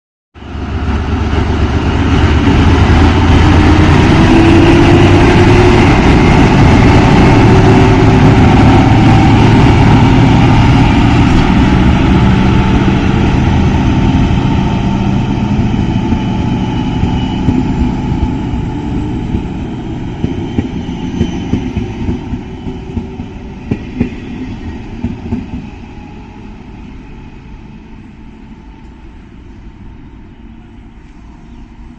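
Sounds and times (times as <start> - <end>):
diesel train engine accelerating: 0.4 - 31.9.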